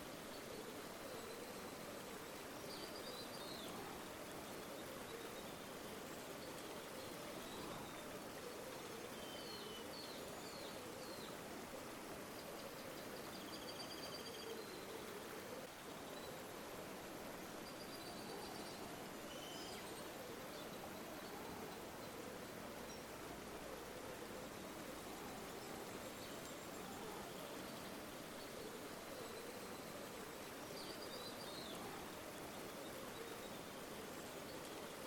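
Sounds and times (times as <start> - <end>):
river water flowing: 0.0 - 35.0.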